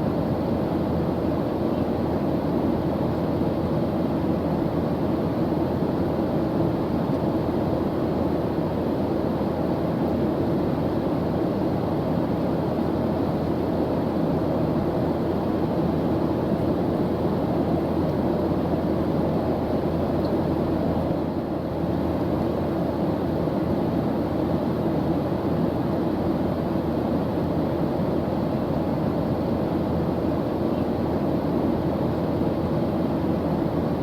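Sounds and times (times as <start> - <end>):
airplane engine droning: 0.0 - 34.0.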